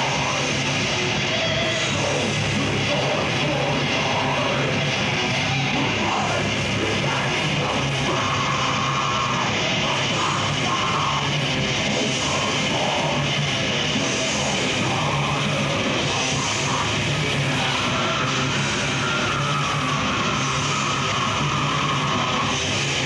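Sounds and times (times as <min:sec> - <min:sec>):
death metal band playing live: 0:00.0 - 0:23.0
drum kit: 0:00.0 - 0:23.0
electric guitars: 0:00.0 - 0:23.0.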